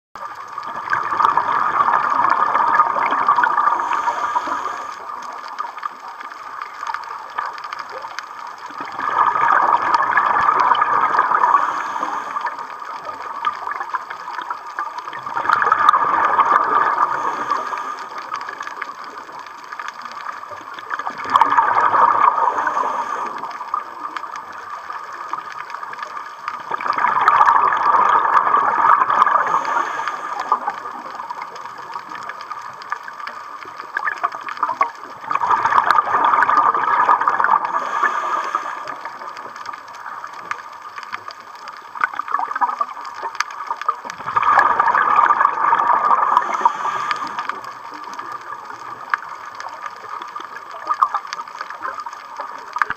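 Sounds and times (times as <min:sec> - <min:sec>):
steady hiss: 0:00.2 - 0:52.9
underwater bubbles bursting: 0:00.2 - 0:52.9.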